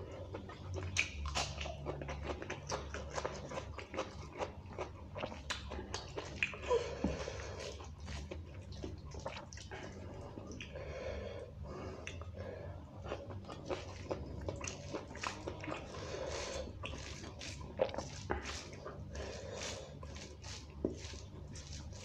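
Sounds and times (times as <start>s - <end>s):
chewing: 0.0s - 11.0s, 11.8s - 22.0s
wet squishing of food mixed by hand: 0.0s - 22.0s.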